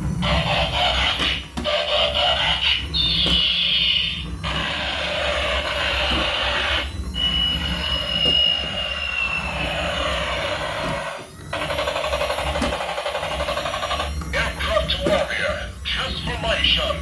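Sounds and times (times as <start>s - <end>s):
toy alarm hiss-like tone: 0.3s - 16.9s.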